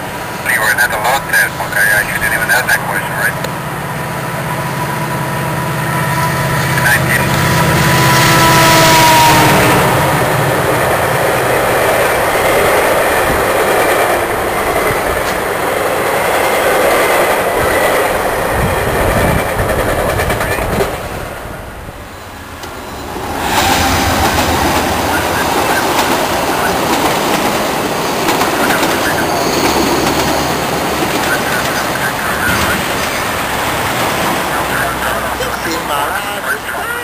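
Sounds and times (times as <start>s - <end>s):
train coaches rumbling past: 0.0s - 37.0s.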